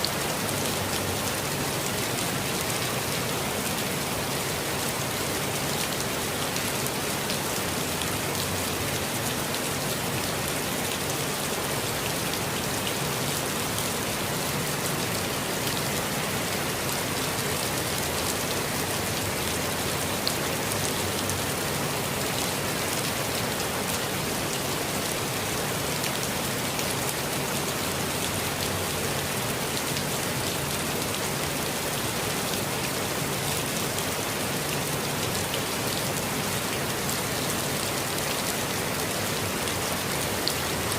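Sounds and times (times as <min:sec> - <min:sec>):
rain pattering on foliage: 0:00.0 - 0:40.9.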